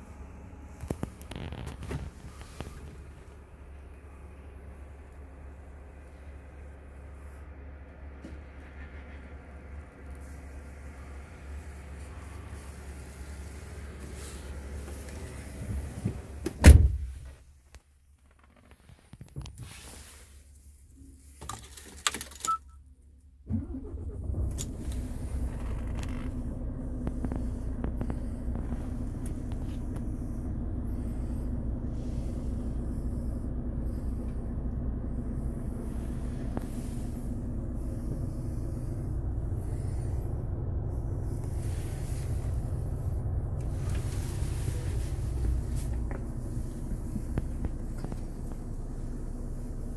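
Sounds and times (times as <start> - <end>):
diesel truck engine starting and idling: 0.0 - 17.2, 23.3 - 49.9.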